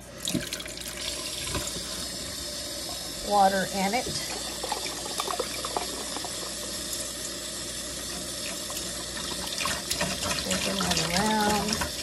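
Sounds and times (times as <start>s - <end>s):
tap water pouring into jar: 0.1s - 3.1s, 3.9s - 12.0s.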